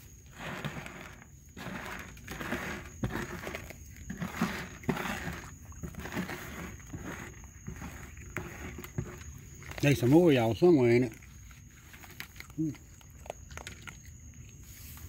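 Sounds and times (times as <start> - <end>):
raccoon crunching food: 0.2 - 15.0
kibble rattling on plastic tray: 0.4 - 14.0.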